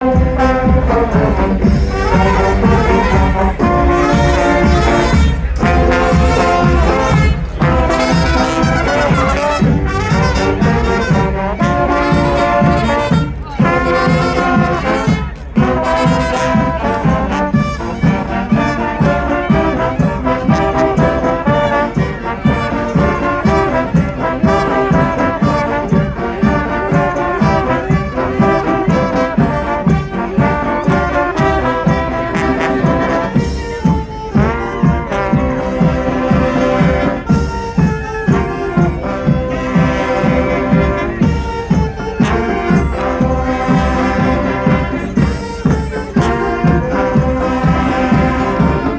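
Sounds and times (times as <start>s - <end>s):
brass band playing: 0.0s - 48.9s.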